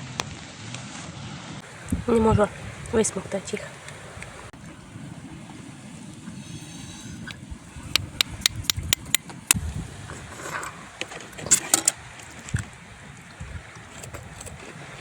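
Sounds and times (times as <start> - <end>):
low wind rumble: 1.6 - 15.0.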